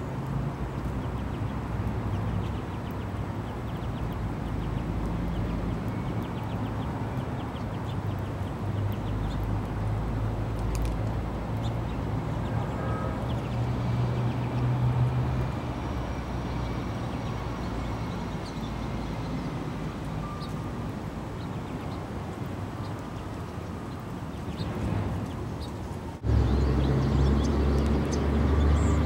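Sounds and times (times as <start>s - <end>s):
low rumble of city traffic: 0.0s - 29.0s.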